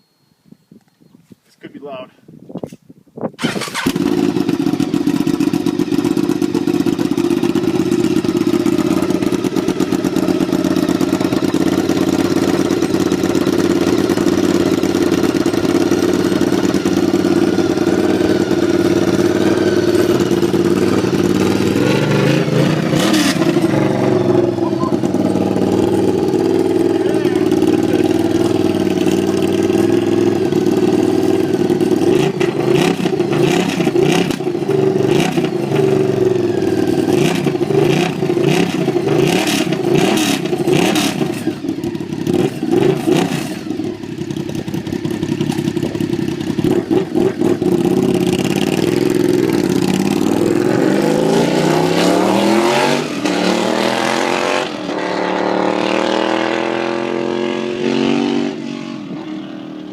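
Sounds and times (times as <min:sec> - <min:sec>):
motorcycle engine revving: 0:03.4 - 0:59.9.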